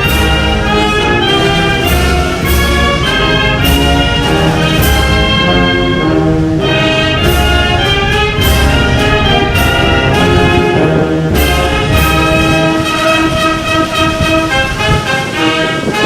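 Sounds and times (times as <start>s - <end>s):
percussion strikes: 0.0s - 13.0s
brass chords and melody: 0.0s - 16.0s.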